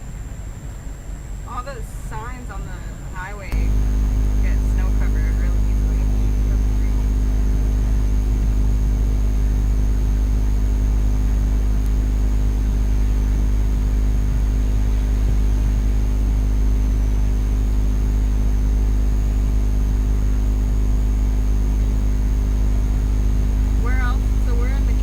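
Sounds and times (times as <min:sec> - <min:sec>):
thin high whine: 0:01.3 - 0:25.0
car driving drone from inside: 0:03.5 - 0:25.0.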